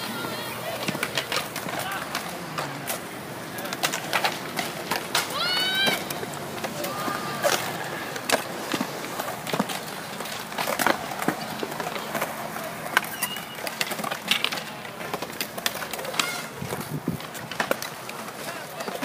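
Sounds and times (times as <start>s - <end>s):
skateboards clacking on ground: 0.0s - 19.0s
skateboards rolling on concrete: 0.0s - 19.0s.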